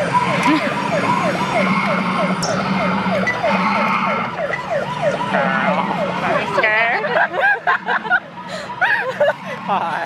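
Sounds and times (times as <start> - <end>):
police siren fast yelp: 0.0 - 9.4.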